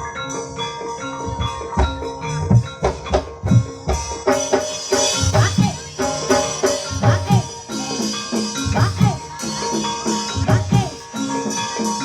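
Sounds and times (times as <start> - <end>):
ringing metallophone notes: 0.0 - 12.0
sharp hand-drum strokes: 1.2 - 11.1.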